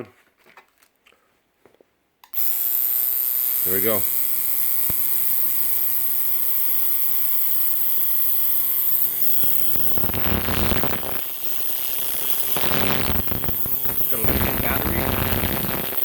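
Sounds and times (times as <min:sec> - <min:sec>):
tattoo machine buzzing: 0:02.3 - 0:16.0.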